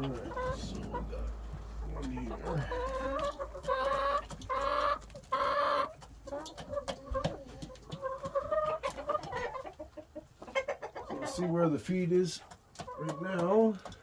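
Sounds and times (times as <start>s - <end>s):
hens clucking and calling: 0.0s - 14.0s.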